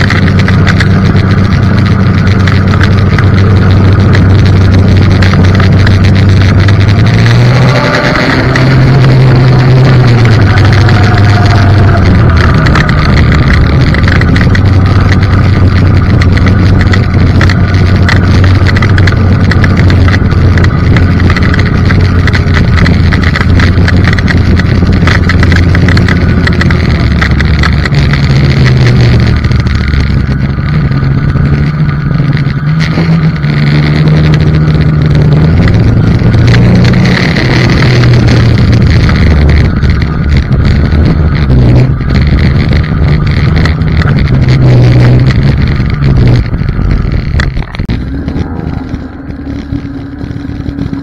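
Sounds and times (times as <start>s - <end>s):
snowmobile engine running: 0.0s - 51.0s.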